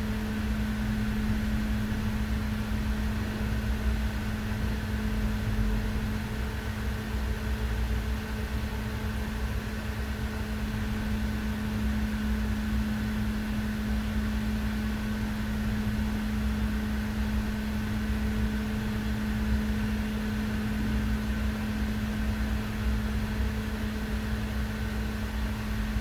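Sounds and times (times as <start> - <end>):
cooling fans running: 0.0 - 26.0.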